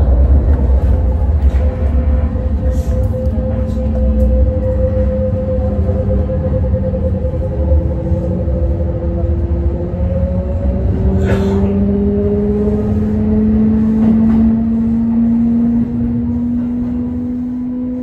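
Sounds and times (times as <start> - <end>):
train traction motor whine: 0.0 - 18.0
wheels rumbling on rail: 0.0 - 18.0.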